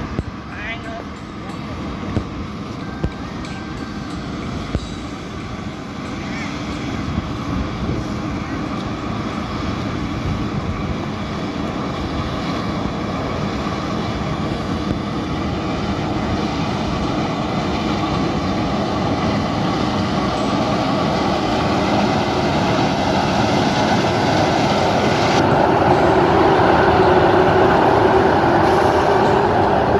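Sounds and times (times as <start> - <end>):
combine harvester engine and threshing: 0.0 - 29.9.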